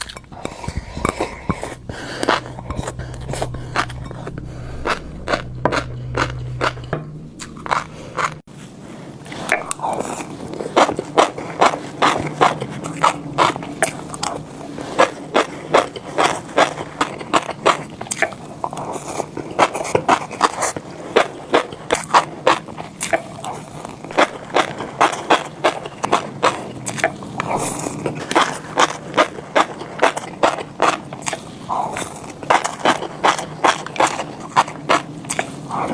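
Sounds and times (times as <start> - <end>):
chewing fish roe popping: 0.0 - 8.5, 9.2 - 35.9.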